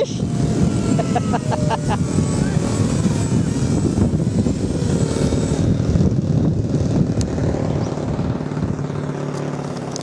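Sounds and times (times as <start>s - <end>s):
quadcopter propellers buzzing: 0.0s - 10.0s
wind rumble on microphone: 0.0s - 10.0s.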